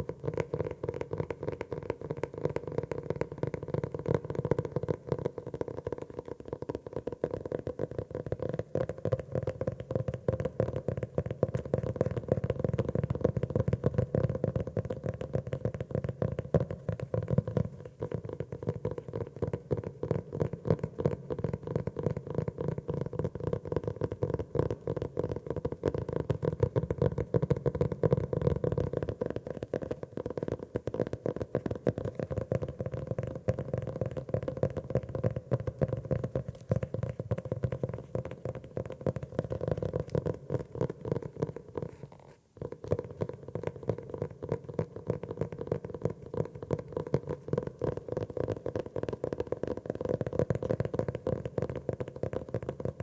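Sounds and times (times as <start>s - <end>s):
fingers tapping on a notebook: 0.0s - 53.0s.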